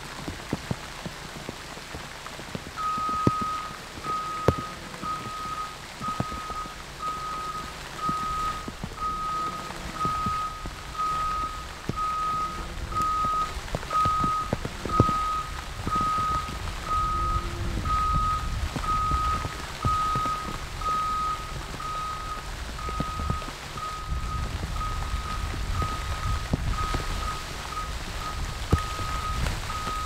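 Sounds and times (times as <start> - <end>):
engine low rumble: 0.0 - 30.0
warning alarm beeping: 2.8 - 30.0.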